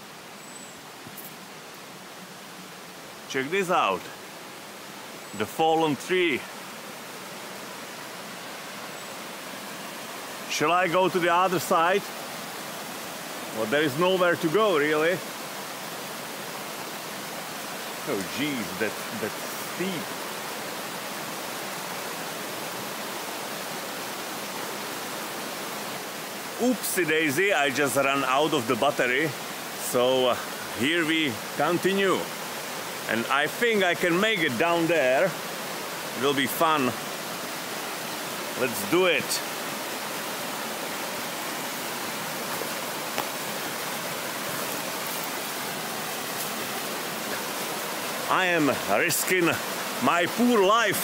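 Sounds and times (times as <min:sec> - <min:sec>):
stream rushing: 0:00.0 - 0:51.0.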